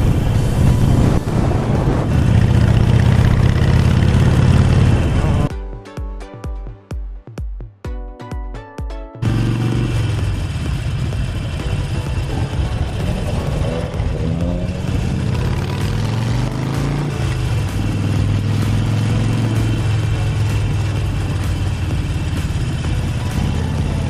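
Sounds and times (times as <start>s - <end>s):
motorcycle engine running: 0.0s - 5.5s, 9.2s - 24.0s
wind and road rush: 0.0s - 5.5s, 9.2s - 24.0s.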